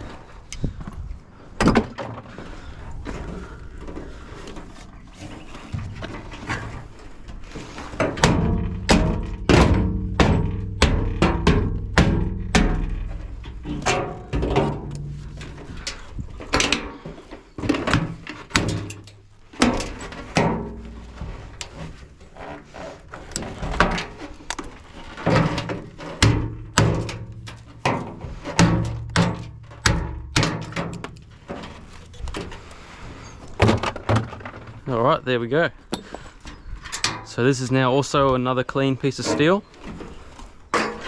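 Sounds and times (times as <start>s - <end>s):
knocks and clunks of metal: 1.6s - 35.0s, 35.9s - 37.4s, 39.1s - 41.0s.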